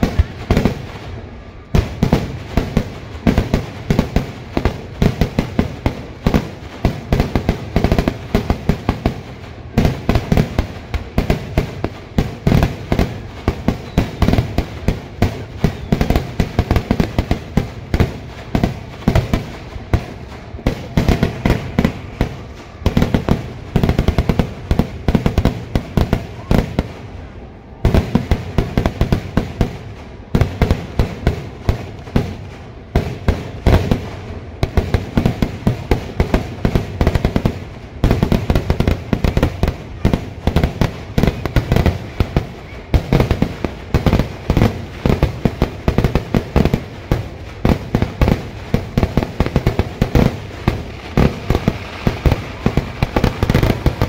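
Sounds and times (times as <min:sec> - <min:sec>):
fireworks bangs and cracks: 0:00.0 - 0:54.0.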